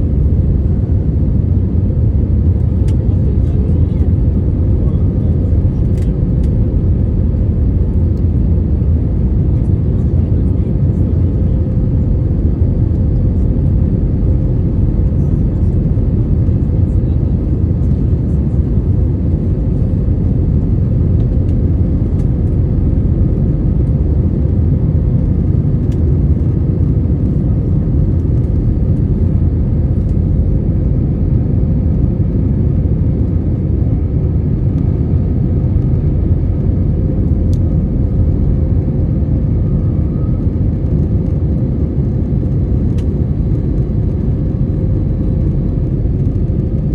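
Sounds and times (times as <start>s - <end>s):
airplane engine drone: 0.0s - 46.9s
faint constant hum: 0.0s - 46.9s.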